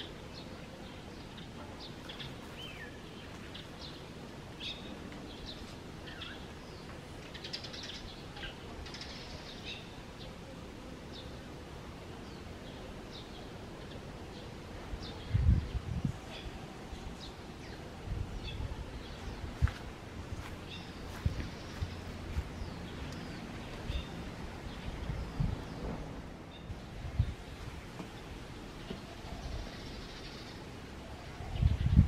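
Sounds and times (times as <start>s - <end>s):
small birds chirping: 0.0s - 10.5s, 11.1s - 32.0s
steady background noise: 0.0s - 32.0s.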